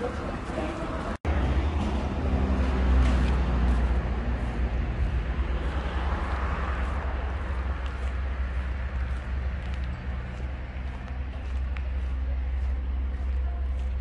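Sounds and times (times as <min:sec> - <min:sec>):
diesel railcar engine hum: 0:00.0 - 0:14.0
train rumbling: 0:00.0 - 0:14.0.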